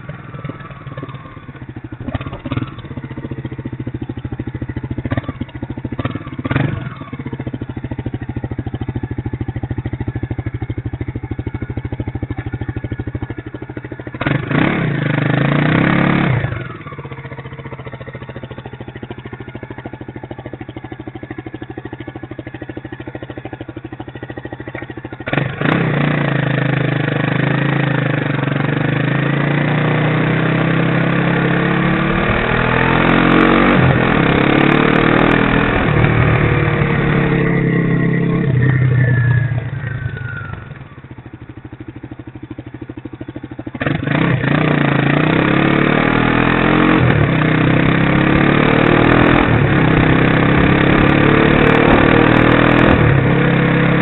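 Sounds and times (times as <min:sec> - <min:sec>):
motorcycle engine idling and accelerating: 0:00.0 - 0:54.0.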